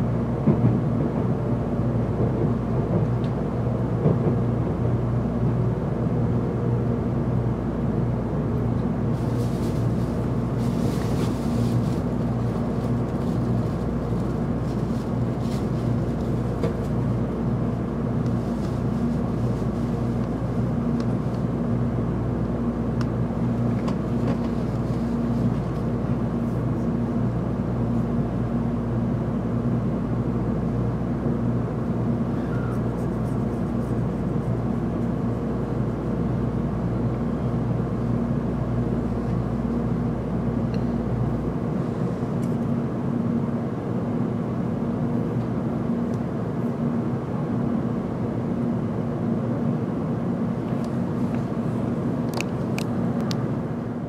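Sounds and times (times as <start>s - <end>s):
train carriage hum and rumble: 0.0s - 54.0s.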